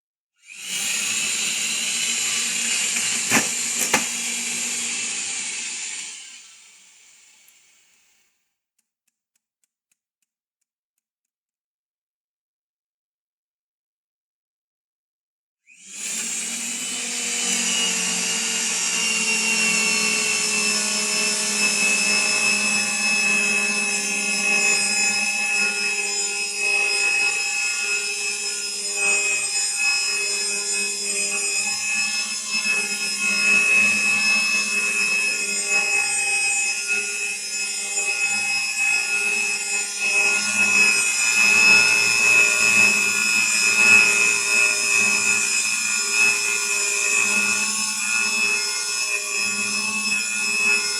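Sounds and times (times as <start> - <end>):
threading machine motor whine: 0.5 - 7.5, 15.7 - 50.9.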